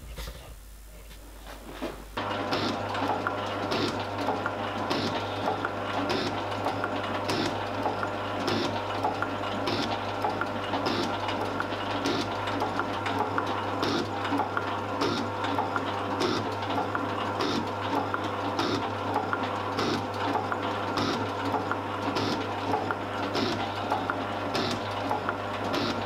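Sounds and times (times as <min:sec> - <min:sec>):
motor hum: 0:02.1 - 0:26.0.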